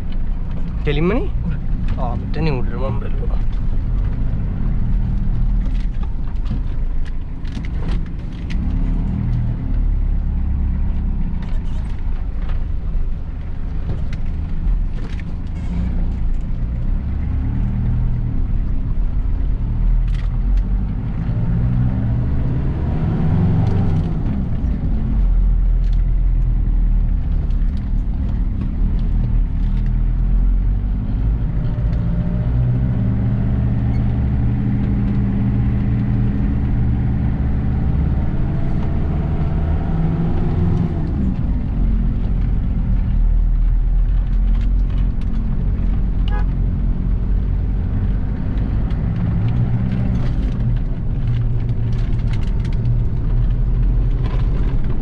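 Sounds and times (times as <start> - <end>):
diesel engine accelerating: 0.0 - 55.0.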